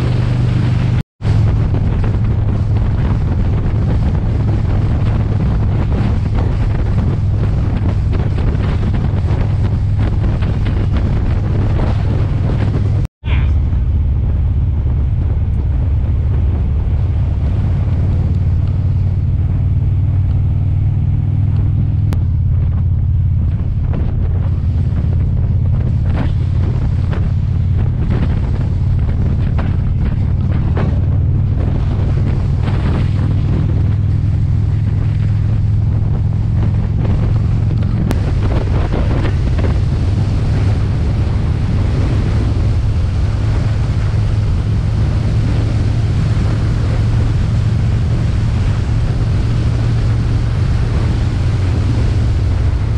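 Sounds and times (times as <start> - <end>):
motorcycle engine running: 0.0 - 52.9
wind buffeting microphone: 0.0 - 52.9.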